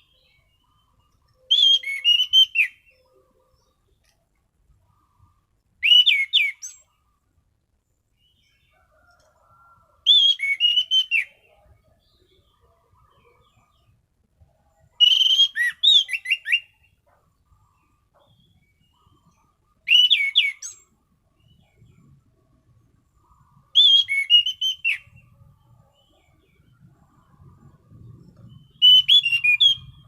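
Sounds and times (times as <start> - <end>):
thrush singing whistled notes: 0.0 - 3.7, 4.9 - 7.0, 9.7 - 14.0, 14.8 - 22.2, 23.2 - 30.0.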